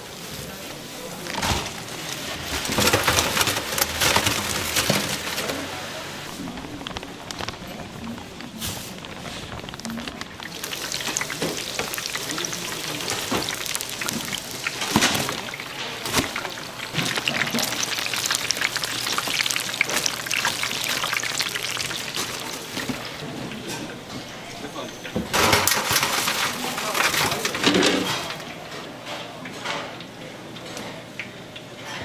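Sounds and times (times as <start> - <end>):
oil sizzling deep-frying: 0.0 - 28.6.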